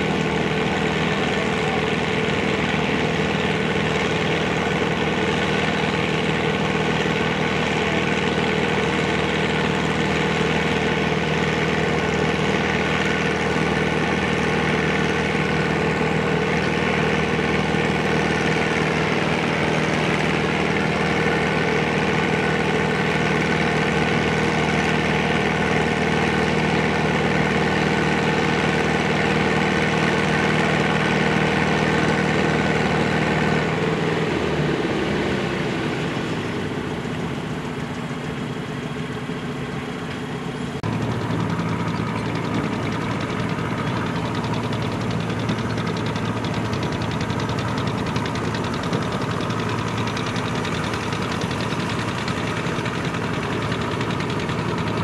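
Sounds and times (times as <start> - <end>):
tractor engine under heavy load: 0.0 - 55.0.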